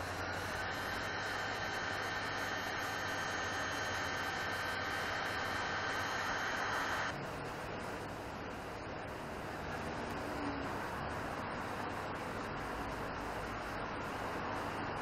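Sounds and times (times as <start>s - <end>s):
heat gun hissing with fan whine: 0.0s - 15.0s.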